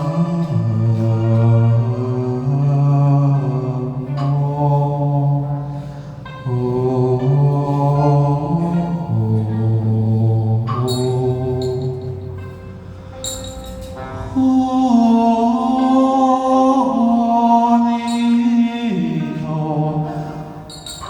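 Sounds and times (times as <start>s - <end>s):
man chanting: 0.0s - 5.7s, 6.4s - 12.4s, 14.3s - 20.8s.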